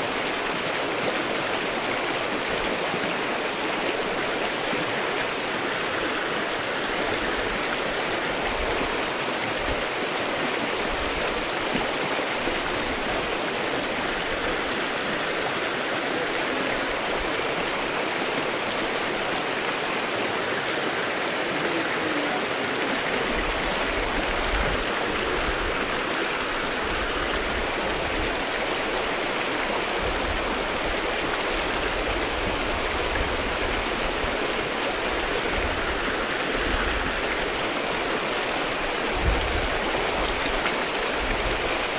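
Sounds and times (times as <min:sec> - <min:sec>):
creek flowing over rocks: 0:00.0 - 0:41.9.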